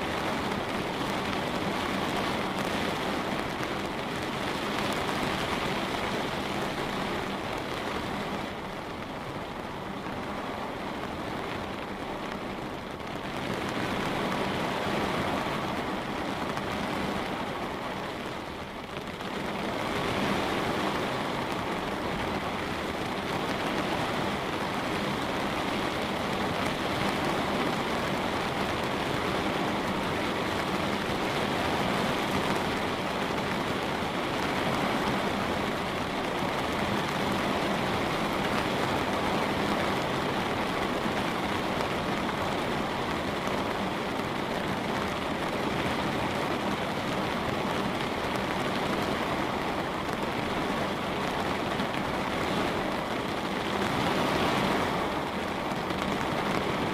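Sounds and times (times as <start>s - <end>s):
light rain pattering on a window: 0.0s - 56.9s.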